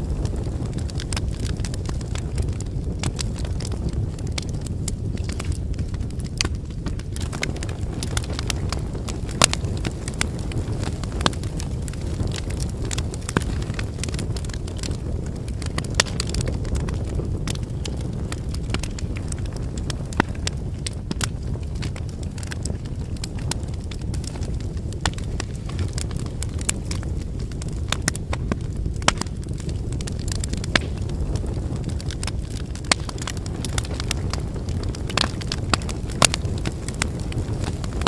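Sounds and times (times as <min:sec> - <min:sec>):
firewood crackling and popping: 0:00.0 - 0:38.0
rumble of flames: 0:00.0 - 0:38.0.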